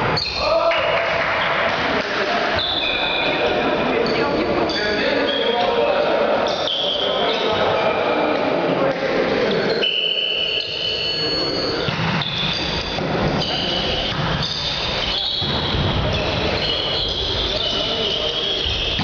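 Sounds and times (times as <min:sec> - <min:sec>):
sneakers squeaking on floor: 0:00.0 - 0:00.6, 0:02.6 - 0:08.2, 0:09.4 - 0:19.0.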